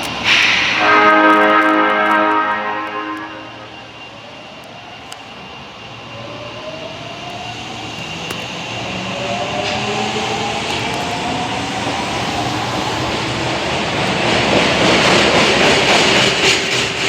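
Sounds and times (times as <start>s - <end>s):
subway train motor whine: 0.0s - 17.0s
train wheel and running noise: 0.0s - 17.0s.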